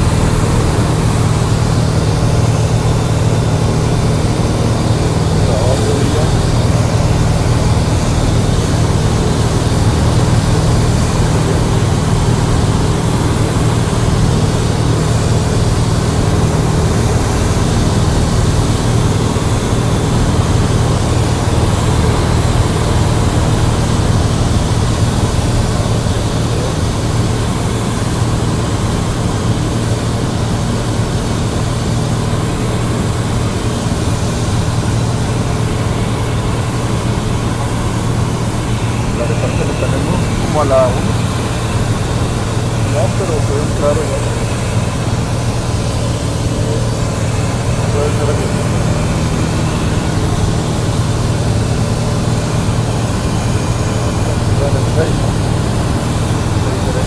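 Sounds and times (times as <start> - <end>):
propeller engine drone: 0.0 - 57.0.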